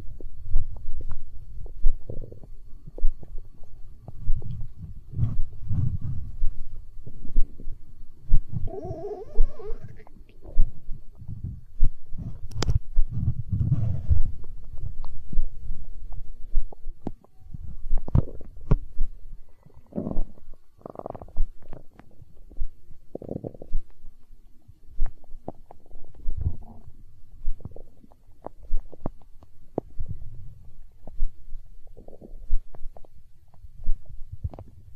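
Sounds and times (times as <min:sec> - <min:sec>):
stomach growling and gurgling: 0:00.0 - 0:34.9.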